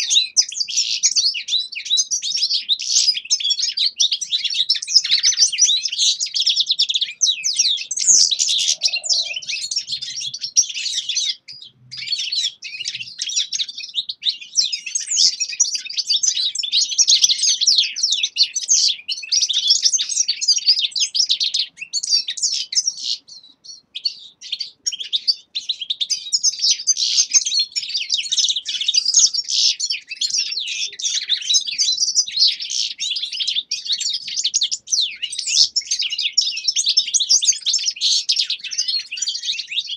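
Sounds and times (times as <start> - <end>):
finches twittering and trilling: 0.0 - 39.9.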